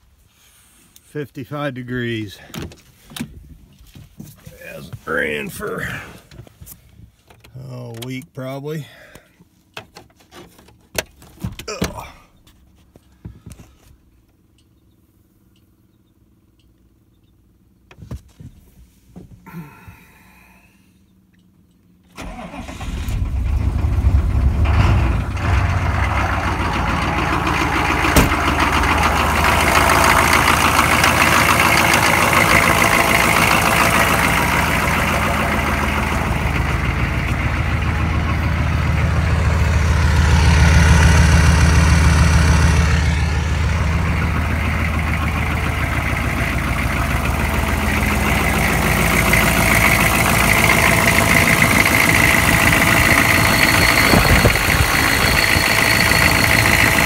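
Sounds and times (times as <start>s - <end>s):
truck engine starting and running: 0.0s - 57.0s.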